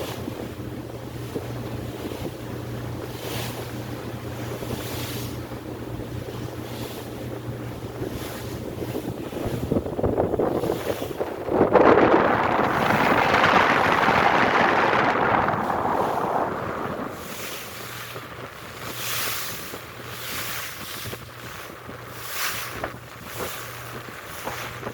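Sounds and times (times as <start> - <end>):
low engine hum: 0.0 - 24.9
water rushing past ferry: 0.0 - 24.9
wind on microphone: 0.0 - 24.9.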